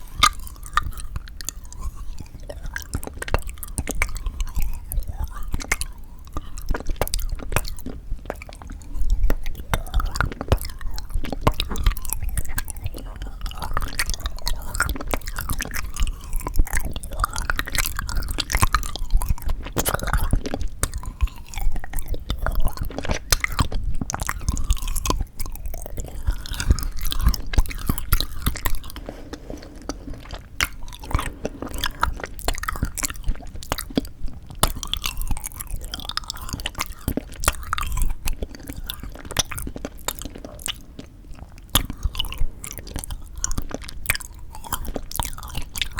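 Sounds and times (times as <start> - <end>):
chewing and crunching: 0.0 - 45.9.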